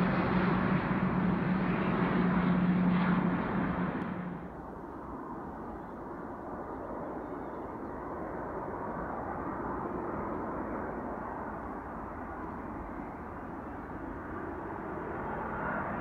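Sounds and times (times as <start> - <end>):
distant jet engines rumbling: 0.0 - 16.0.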